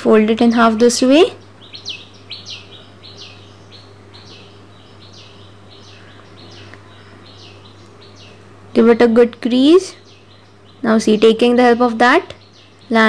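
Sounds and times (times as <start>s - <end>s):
low steady hum: 0.0s - 13.0s
small bird chirping: 0.0s - 13.0s.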